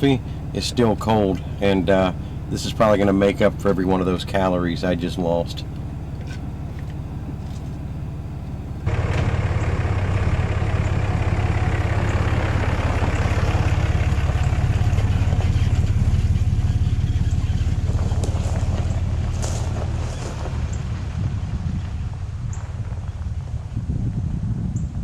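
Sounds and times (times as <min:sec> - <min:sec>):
pickup truck engine drone: 0:00.0 - 0:25.0
road noise: 0:00.0 - 0:25.0.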